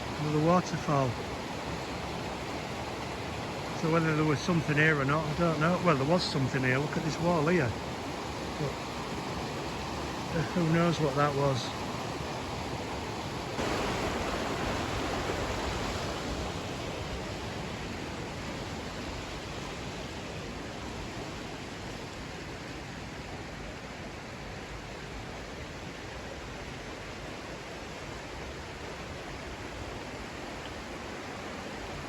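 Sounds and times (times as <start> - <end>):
stream and waterfall rushing: 0.0 - 32.0.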